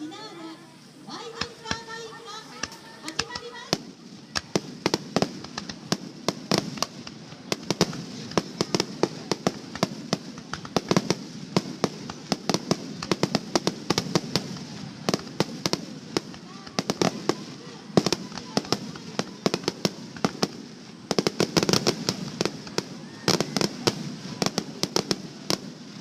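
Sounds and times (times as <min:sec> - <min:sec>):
fireworks crackling: 0:00.0 - 0:26.0
fireworks bangs and cracks: 0:01.1 - 0:26.0.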